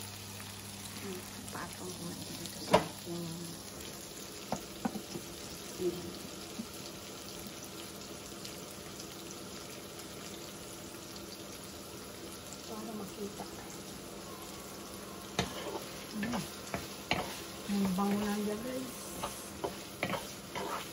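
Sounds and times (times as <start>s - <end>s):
vegetables sizzling in pan: 0.0s - 20.9s.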